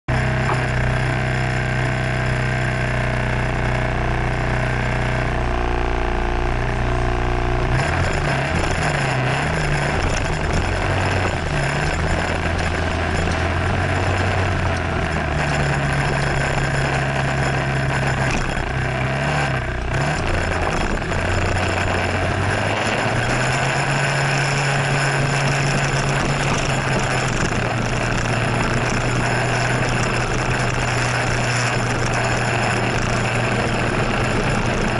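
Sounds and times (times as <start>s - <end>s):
motor scooter engine revving: 0.1s - 34.9s.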